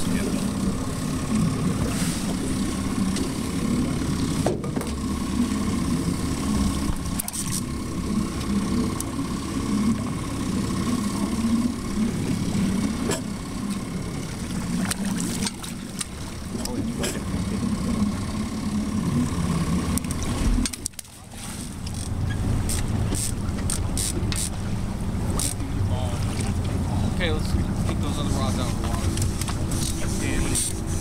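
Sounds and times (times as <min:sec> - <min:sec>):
motorboat engine droning: 0:00.0 - 0:31.0
thin steady whine: 0:00.0 - 0:31.0.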